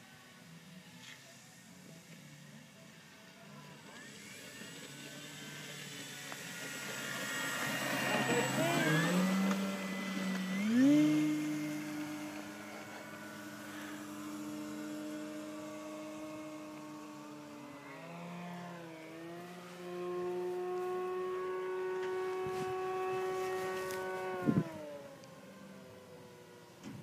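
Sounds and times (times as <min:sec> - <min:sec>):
model airplane motor whine: 0:00.0 - 0:27.0.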